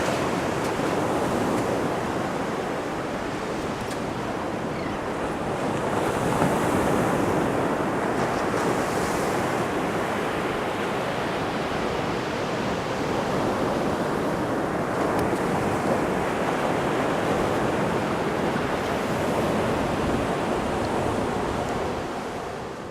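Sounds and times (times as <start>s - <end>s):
ocean surf breaking on beach: 0.0s - 22.9s.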